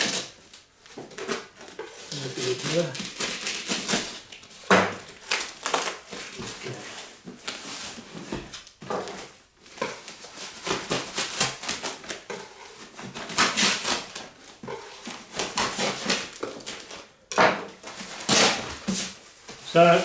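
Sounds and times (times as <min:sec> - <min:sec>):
cardboard and packing rustling: 0:00.0 - 0:20.0.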